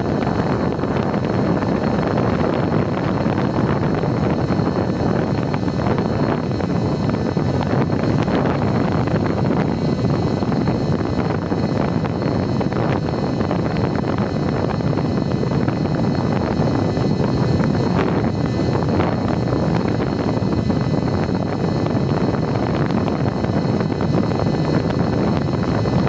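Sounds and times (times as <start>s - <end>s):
electric motor and propeller: 0.0s - 26.0s
faint high whine: 0.0s - 26.0s
wind rushing across microphone: 0.0s - 26.0s.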